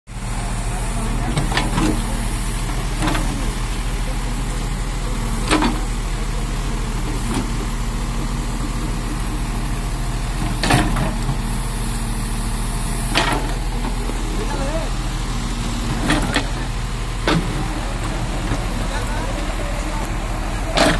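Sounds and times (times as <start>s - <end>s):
diesel engine running: 0.1s - 20.9s.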